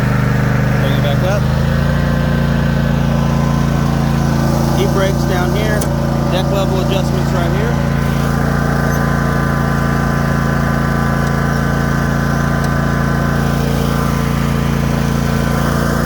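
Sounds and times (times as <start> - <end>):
mower engine running: 0.0 - 16.0.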